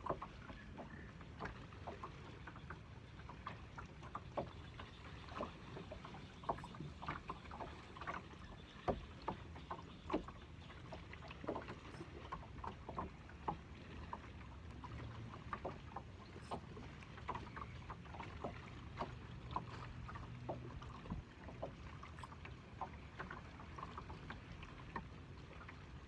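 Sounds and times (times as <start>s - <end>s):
water lapping and slapping: 0.0s - 26.0s.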